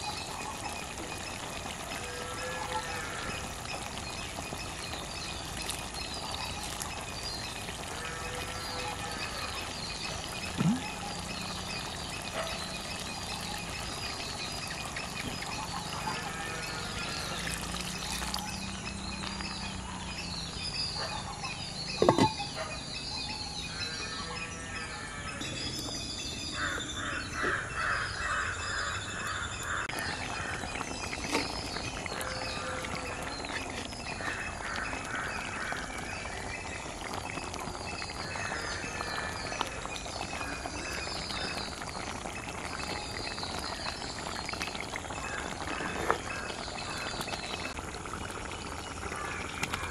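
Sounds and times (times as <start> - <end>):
birds calling and chirping: 0.0 - 49.9.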